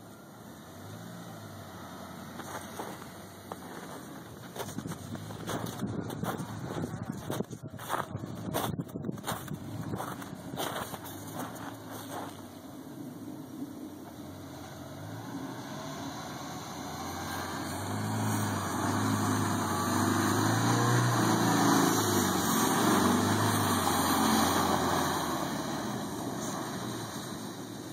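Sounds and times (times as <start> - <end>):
suv engine pulling: 0.0 - 27.9
tyres churning snow: 0.0 - 27.9.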